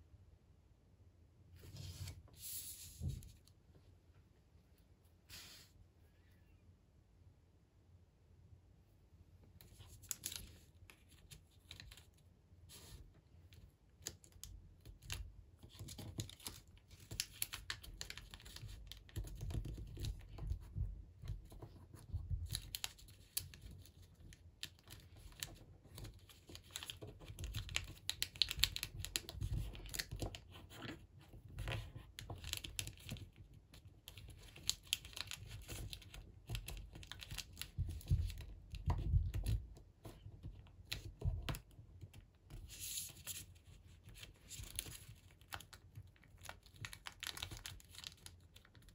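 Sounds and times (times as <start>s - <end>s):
paper folding and crinkling: 9.6s - 48.9s.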